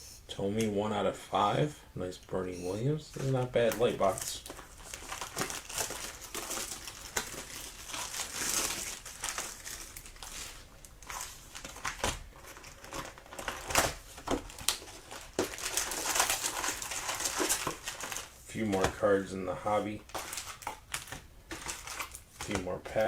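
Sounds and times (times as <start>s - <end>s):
cards rustling: 2.6s - 23.0s
foil wrappers crinkling and tearing: 3.2s - 23.0s.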